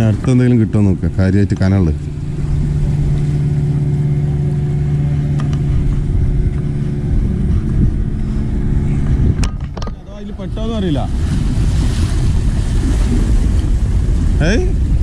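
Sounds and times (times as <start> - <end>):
boat engine droning: 0.0 - 15.0
wind rumble on microphone: 0.0 - 15.0.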